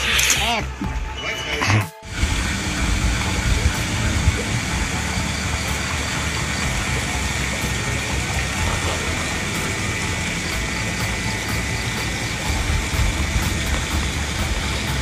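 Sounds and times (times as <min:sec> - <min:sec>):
background music with heavy bass: 0:00.0 - 0:15.0.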